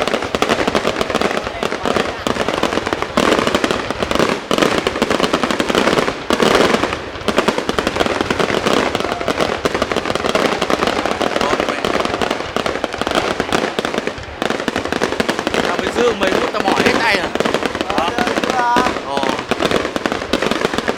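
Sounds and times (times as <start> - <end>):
fireworks crackling bangs: 0.0 - 20.9.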